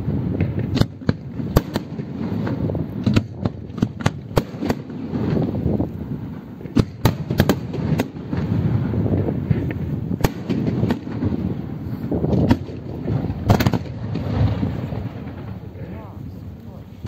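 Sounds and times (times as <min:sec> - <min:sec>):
fireworks bangs and crackles: 0:00.0 - 0:17.0
continuous low rumble: 0:00.1 - 0:17.0.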